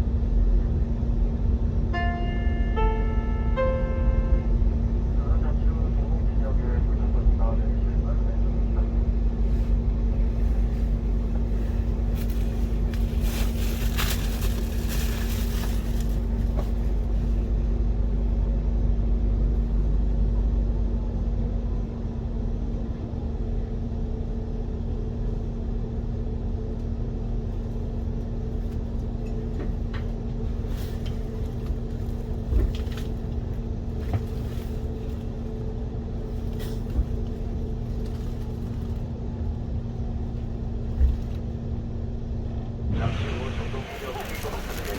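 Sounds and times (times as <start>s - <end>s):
droning hum: 0.0s - 44.9s
moving vehicle rumble: 0.0s - 44.9s.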